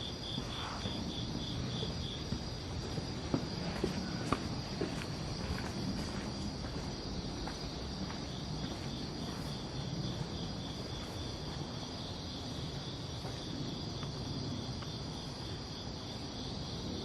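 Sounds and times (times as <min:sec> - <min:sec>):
crickets and night insects trilling: 0:00.0 - 0:17.0.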